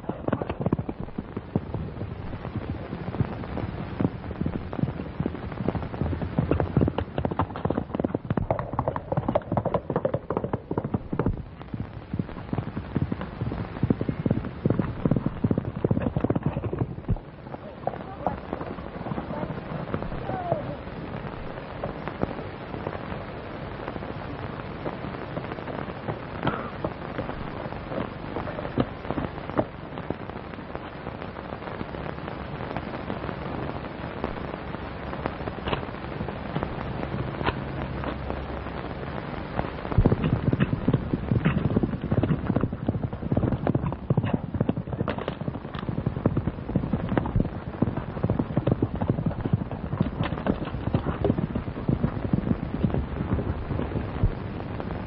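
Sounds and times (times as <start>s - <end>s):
horse galloping hoofbeats: 0.0s - 22.7s, 25.4s - 31.4s, 34.2s - 55.0s
film soundtrack hiss and crackle: 0.0s - 55.0s.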